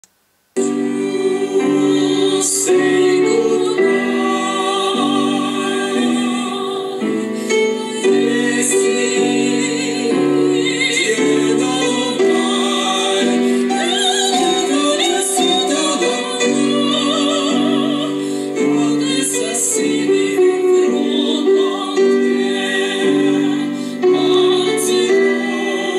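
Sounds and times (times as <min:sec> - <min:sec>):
operatic singing with vibrato: 0:00.6 - 0:25.9
piano chords: 0:00.6 - 0:25.9.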